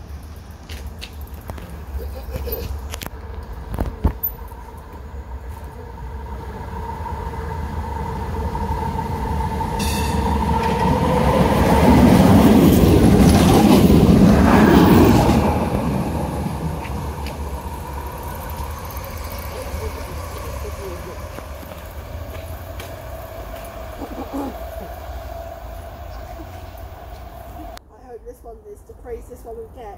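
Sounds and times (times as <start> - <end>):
tram passing on rails: 0.0 - 29.8.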